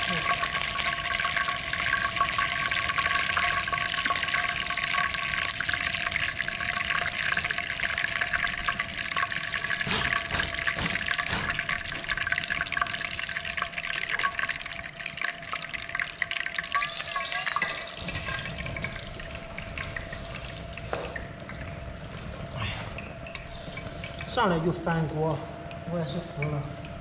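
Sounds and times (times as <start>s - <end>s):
food frying in hot oil: 0.0s - 24.9s.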